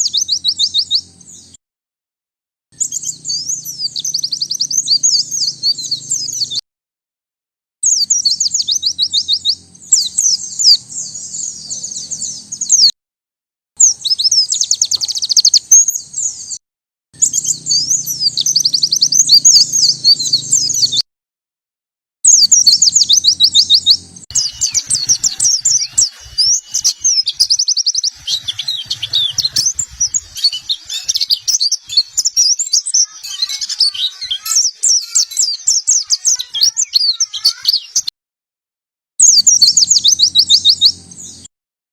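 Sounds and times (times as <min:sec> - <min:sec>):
high-pitched bird twittering: 0:00.0 - 0:01.5, 0:02.8 - 0:06.6, 0:07.8 - 0:12.9, 0:13.8 - 0:16.6, 0:17.2 - 0:21.0, 0:22.3 - 0:38.1, 0:39.2 - 0:41.4.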